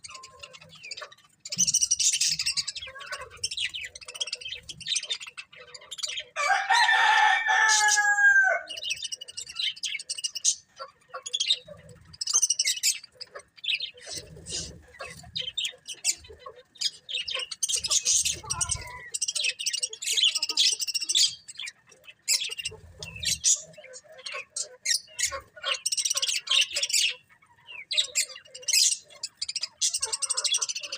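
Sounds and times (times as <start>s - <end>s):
budgies chirping: 0.0s - 30.9s
drawn-out budgie call: 0.0s - 30.9s.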